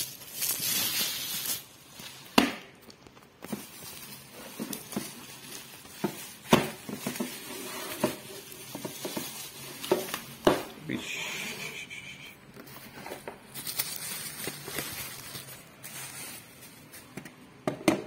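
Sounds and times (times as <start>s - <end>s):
bubble wrap rustling and crinkling: 0.0s - 11.0s, 12.5s - 17.6s.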